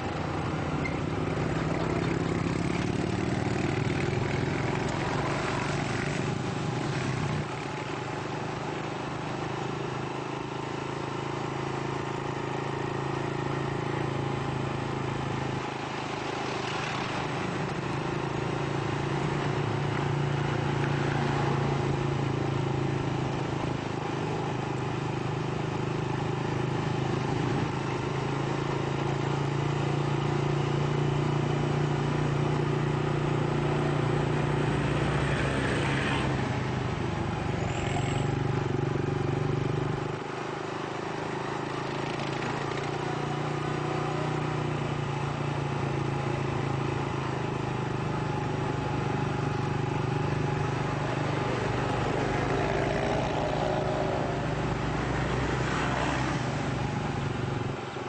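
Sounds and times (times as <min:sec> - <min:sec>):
road noise: 0:00.0 - 0:58.0
vehicle engine hum: 0:00.0 - 0:58.0.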